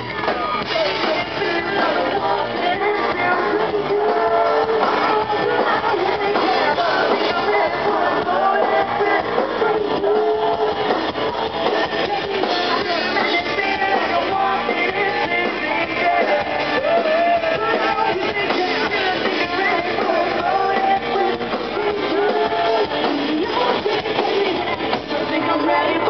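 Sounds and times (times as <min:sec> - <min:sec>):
man singing: 0:00.0 - 0:26.0
strummed electric guitars: 0:00.0 - 0:26.0.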